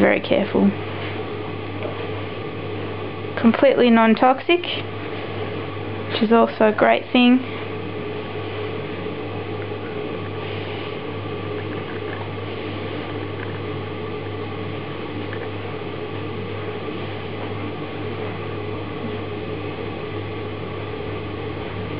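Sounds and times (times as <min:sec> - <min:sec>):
machine motor hum: 0:00.0 - 0:21.9.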